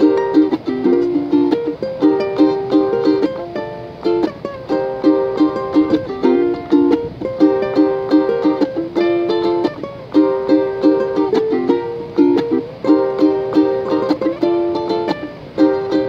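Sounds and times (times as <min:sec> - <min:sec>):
ukuleles strumming chords: 0:00.0 - 0:16.0.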